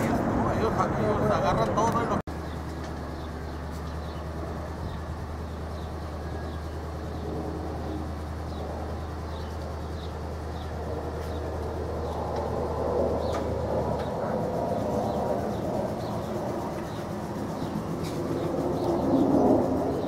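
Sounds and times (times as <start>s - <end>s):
jet airliner overhead: 0.0s - 20.0s
steady low hum: 0.0s - 20.0s
small bird chirping: 2.4s - 12.5s, 13.2s - 20.0s.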